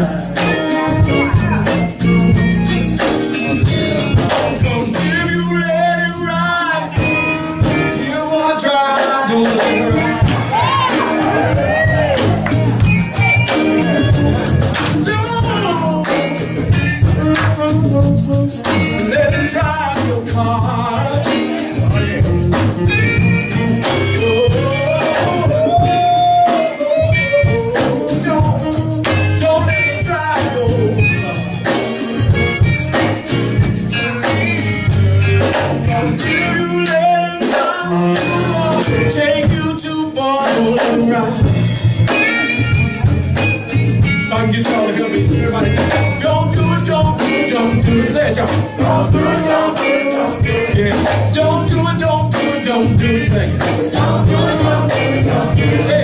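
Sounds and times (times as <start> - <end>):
people singing: 0.0 - 7.2, 7.8 - 23.0, 23.6 - 32.3, 34.2 - 42.6, 44.3 - 56.0
drums: 0.0 - 56.0
gospel band playing: 0.0 - 56.0
keyboard: 0.0 - 56.0.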